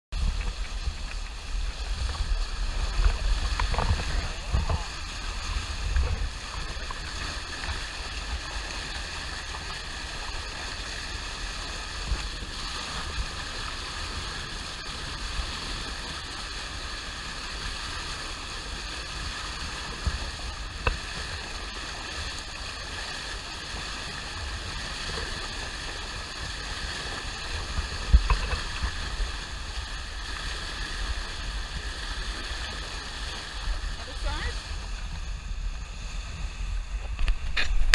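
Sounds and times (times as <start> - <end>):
wind buffeting on camera: 0.1 - 18.0, 18.6 - 37.9
bow wave rushing along hull: 0.1 - 37.9.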